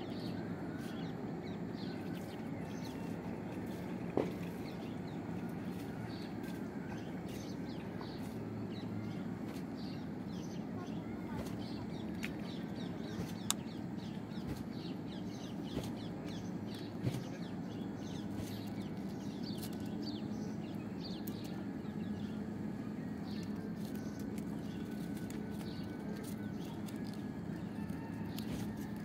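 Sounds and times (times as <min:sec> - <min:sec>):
birds chirping: 0:00.0 - 0:29.0
low hum: 0:00.0 - 0:29.0.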